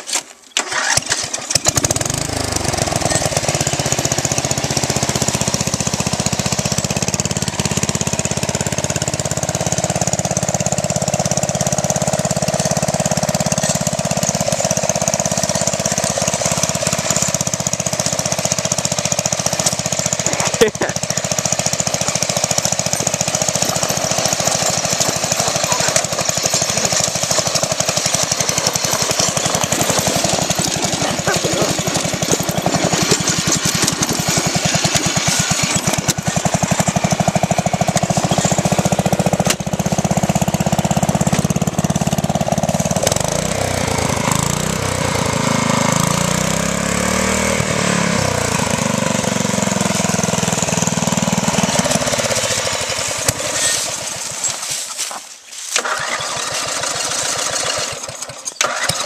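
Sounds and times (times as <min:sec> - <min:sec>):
lawn mower engine running hard: 0:00.0 - 0:59.0.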